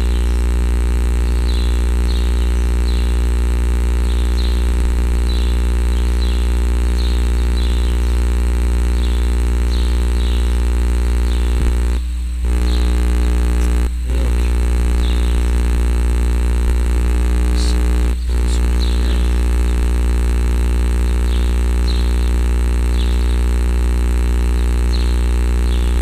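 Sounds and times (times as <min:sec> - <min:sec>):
loud mechanical drone: 0:00.0 - 0:26.0.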